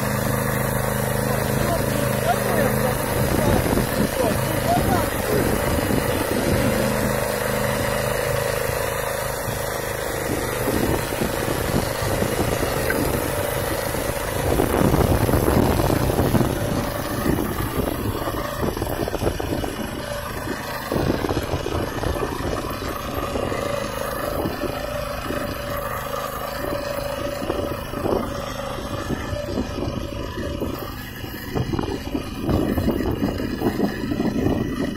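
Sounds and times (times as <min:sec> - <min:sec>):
rotary tiller working soil: 0:00.0 - 0:34.9
walking tractor engine running: 0:00.0 - 0:34.9.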